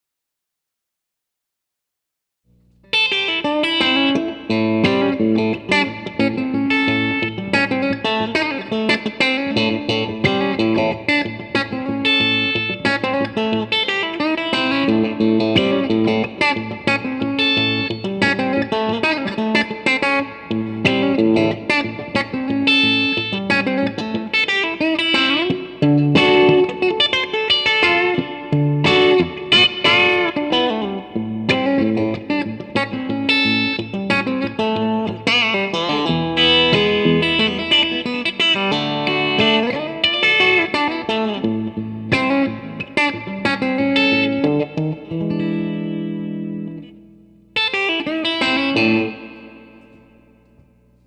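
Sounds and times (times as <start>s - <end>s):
electric guitar picked notes: 2.5s - 51.0s.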